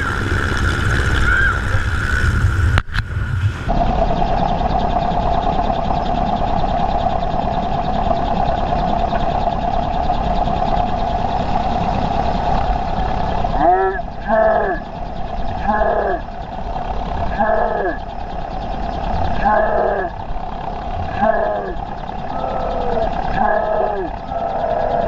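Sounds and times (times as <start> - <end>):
helicopter engine whine: 0.0 - 25.0.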